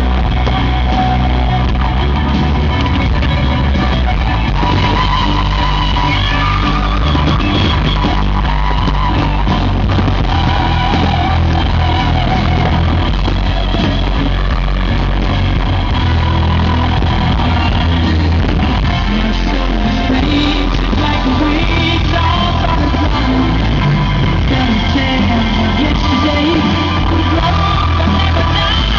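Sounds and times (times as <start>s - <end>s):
loud rock music with guitar: 0.0s - 28.9s.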